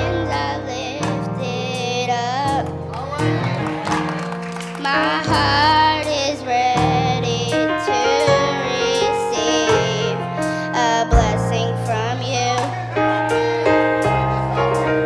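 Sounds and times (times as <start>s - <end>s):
piano or keyboard: 0.0s - 15.0s
voices singing gospel: 0.0s - 15.0s.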